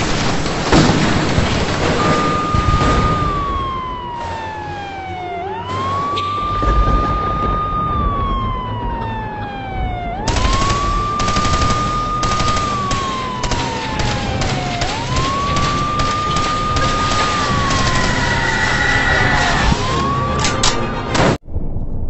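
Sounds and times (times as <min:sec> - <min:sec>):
crackle of sharp bangs: 0:00.0 - 0:21.4
siren wailing: 0:00.0 - 0:21.4.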